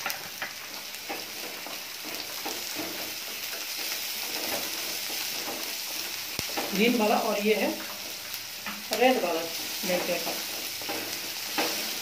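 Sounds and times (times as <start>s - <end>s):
spatula tapping and scraping pan: 0.0s - 12.0s
vegetables sizzling in oil: 0.0s - 12.0s.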